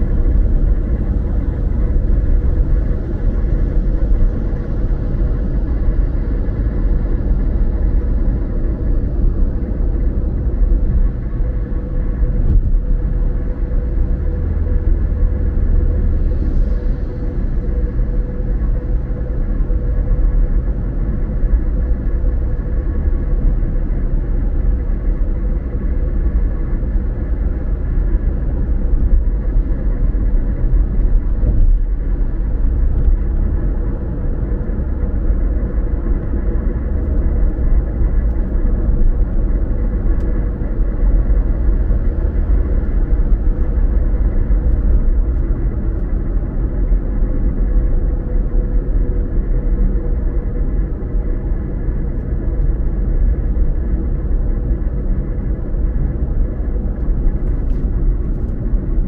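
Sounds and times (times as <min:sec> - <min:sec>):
car road and tyre noise: 0:00.0 - 0:59.0
constant hum: 0:00.0 - 0:59.0.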